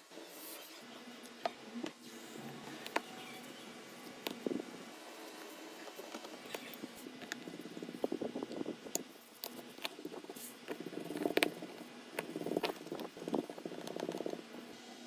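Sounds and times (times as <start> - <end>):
rapid scratching and scraping: 0.4 - 14.8.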